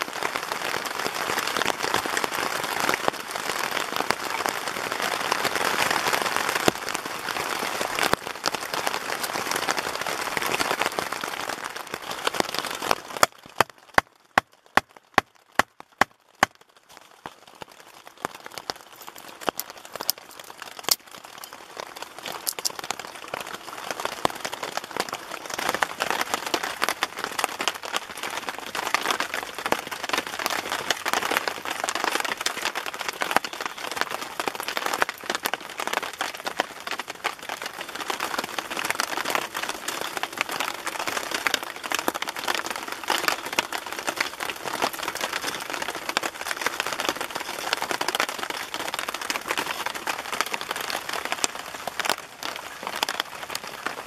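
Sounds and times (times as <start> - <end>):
rain on a tent: 0.0 - 54.0.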